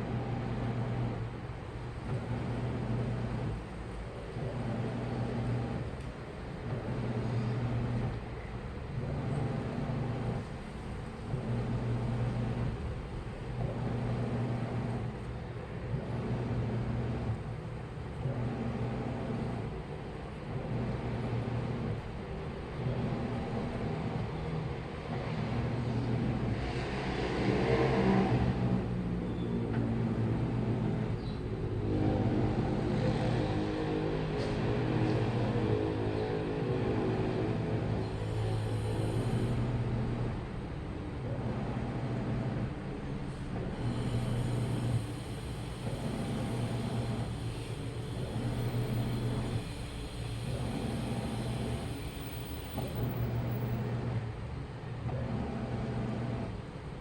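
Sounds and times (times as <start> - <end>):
washing machine running: 0.0 - 57.0.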